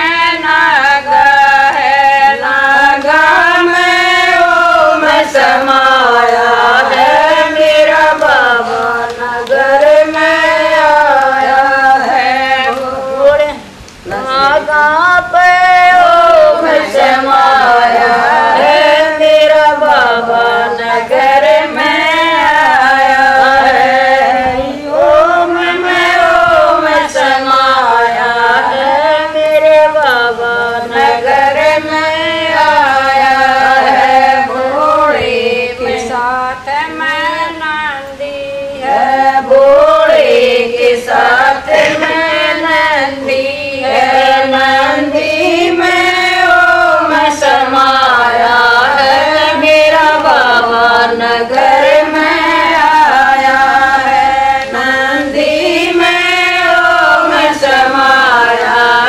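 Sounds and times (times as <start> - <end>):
women singing together: 0.0 - 59.0.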